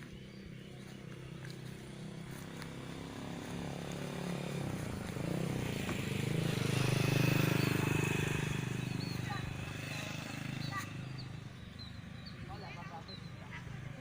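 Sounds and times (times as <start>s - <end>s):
motorbike engine passing by: 0.0s - 14.0s.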